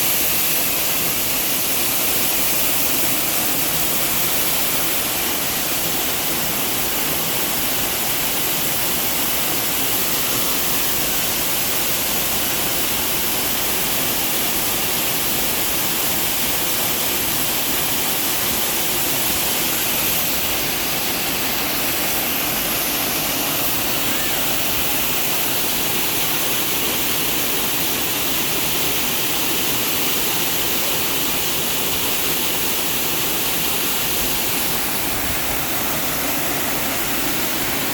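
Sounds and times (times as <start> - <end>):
waterfall roar: 0.0 - 37.9.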